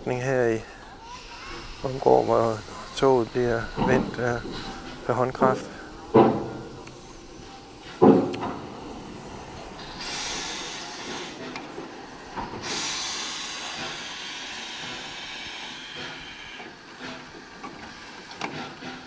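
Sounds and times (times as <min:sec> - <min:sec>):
steam locomotive hissing steam: 0:00.0 - 0:19.0.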